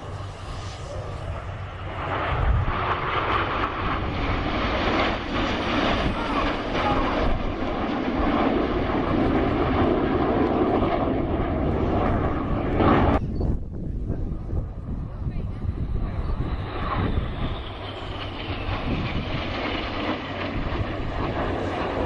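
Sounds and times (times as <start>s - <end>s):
aircraft engine rushing past: 0.0s - 22.0s.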